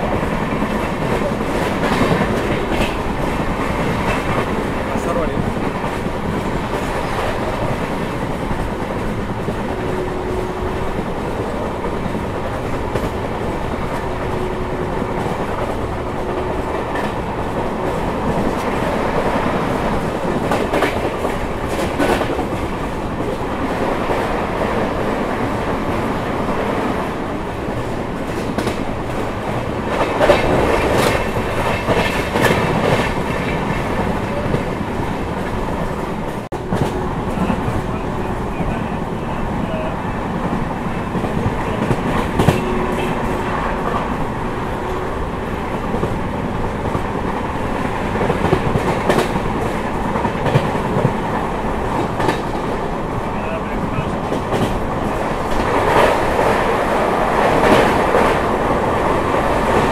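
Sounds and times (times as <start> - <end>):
clickety-clack over rail joints: 0.0 - 59.9
train wheels rumbling on rail: 0.0 - 59.9.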